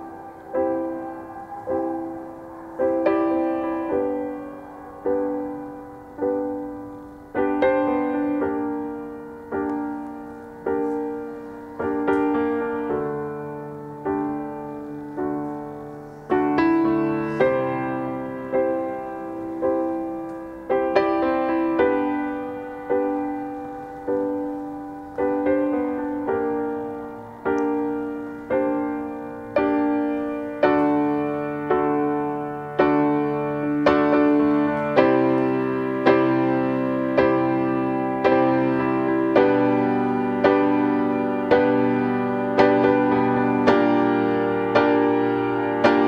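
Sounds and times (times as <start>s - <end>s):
slow piano music: 0.0s - 46.0s.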